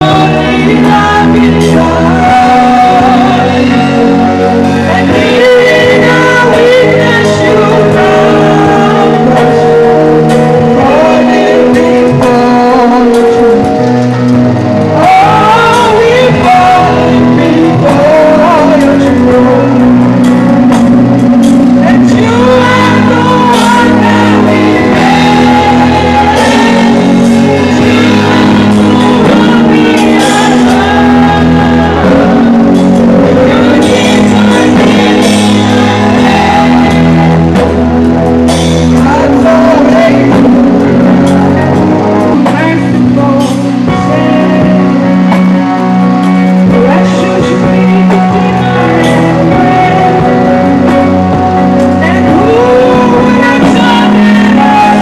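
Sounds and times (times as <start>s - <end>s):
band accompaniment: 0.0s - 55.0s
choir singing gospel: 0.0s - 55.0s.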